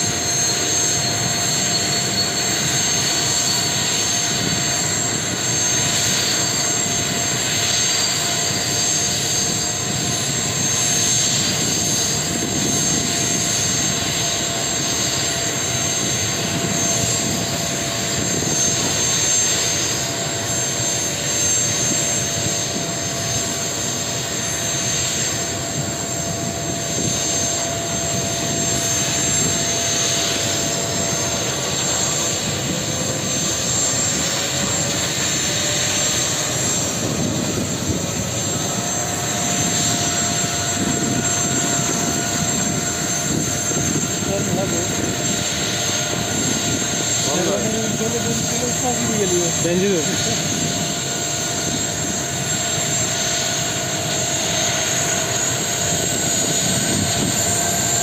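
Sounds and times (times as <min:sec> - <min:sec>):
helicopter turbine whine: 0:00.0 - 0:58.0.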